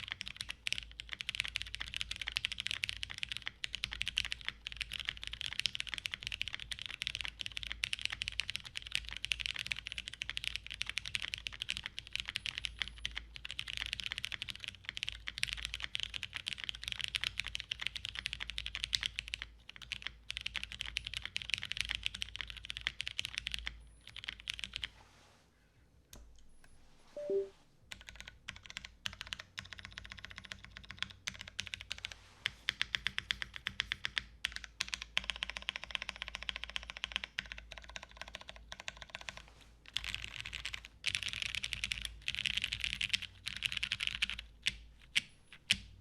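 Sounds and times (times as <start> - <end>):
fast mechanical keyboard typing: 0.0 - 24.9, 27.2 - 45.9.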